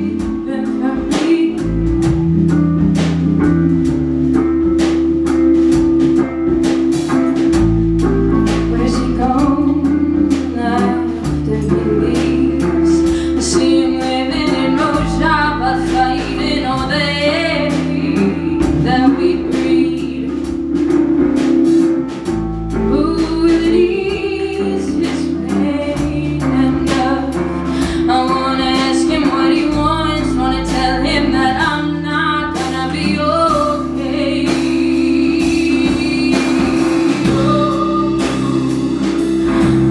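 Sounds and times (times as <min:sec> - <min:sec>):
woman singing: 0:00.0 - 0:03.2, 0:08.3 - 0:21.9, 0:22.7 - 0:39.9
bass guitar: 0:00.0 - 0:39.9
drum kit beat: 0:00.0 - 0:39.9
electric guitar: 0:00.0 - 0:39.9.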